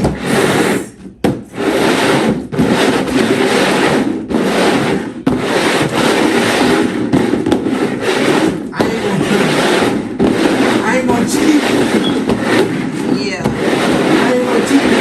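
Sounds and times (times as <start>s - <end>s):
bowls scraping on tabletop: 0.0s - 15.0s.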